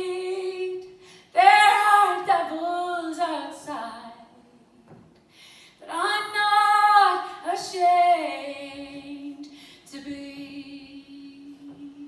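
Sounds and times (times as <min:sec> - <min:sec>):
woman singing: 0:00.0 - 0:04.4, 0:05.8 - 0:12.0.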